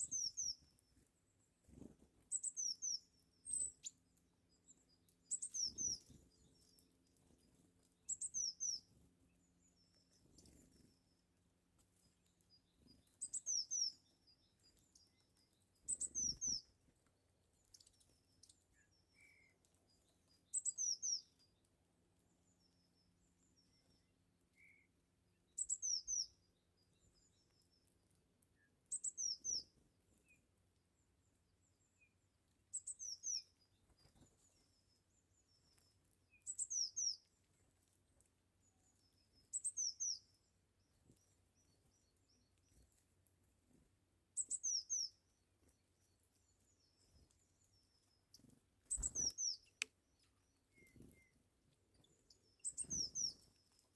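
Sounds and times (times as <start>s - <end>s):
bird chirping: 0.0s - 11.2s, 12.3s - 16.8s, 17.5s - 21.6s, 22.4s - 27.8s, 28.6s - 30.4s, 31.6s - 37.6s, 38.2s - 42.9s, 44.4s - 53.9s.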